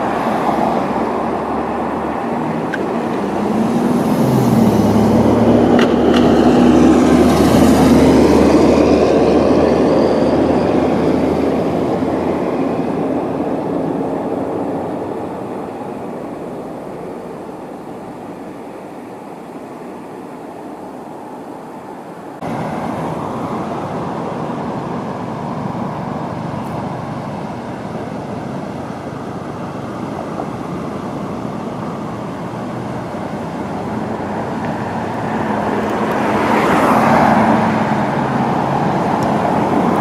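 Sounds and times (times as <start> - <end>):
passing cars: 0.0 - 40.0.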